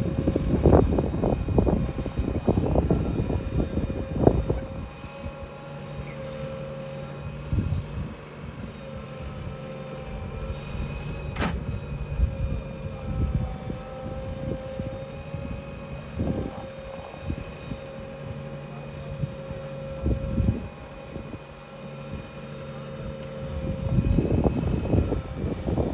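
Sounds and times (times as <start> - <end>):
diesel engine under load: 0.0 - 25.9.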